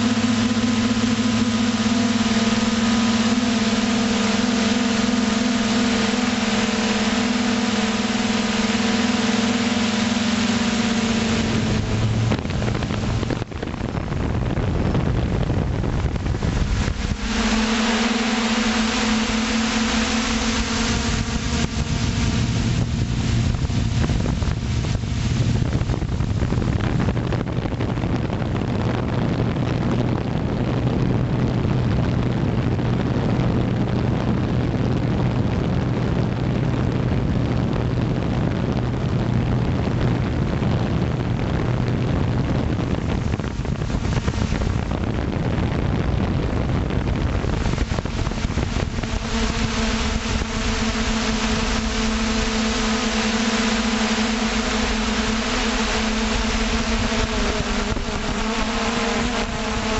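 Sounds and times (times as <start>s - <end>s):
aircraft motor hum: 0.0s - 59.9s
wind rushing over microphone: 0.0s - 59.9s.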